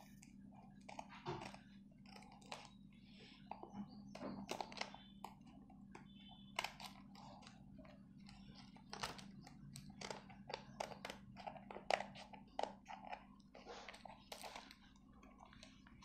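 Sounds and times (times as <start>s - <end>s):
paper crackle: 0.0s - 16.0s
scissors cutting paper: 0.0s - 16.0s.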